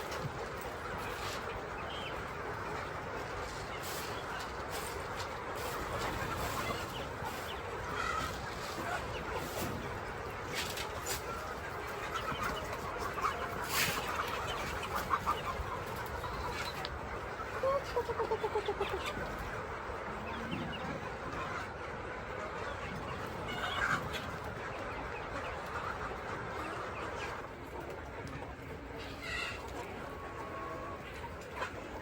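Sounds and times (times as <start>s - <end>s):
chickens clucking: 0.0s - 32.0s
steady background noise: 0.0s - 32.0s.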